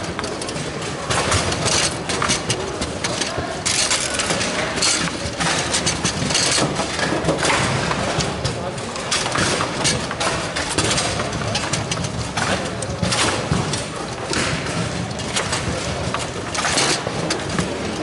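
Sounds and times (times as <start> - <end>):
background din of voices: 0.0 - 18.0.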